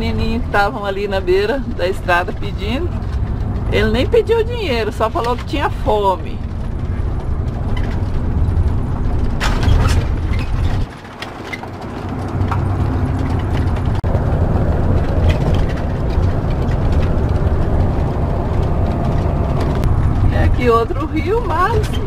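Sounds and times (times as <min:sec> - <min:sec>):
engine and road rumble: 0:00.0 - 0:22.0
rattles: 0:00.0 - 0:22.0.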